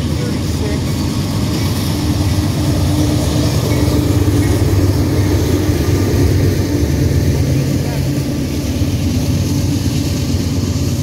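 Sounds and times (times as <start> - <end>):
freight cars rolling on rails: 0.0 - 11.0
locomotive engine droning: 0.0 - 11.0
train rumble: 0.0 - 11.0.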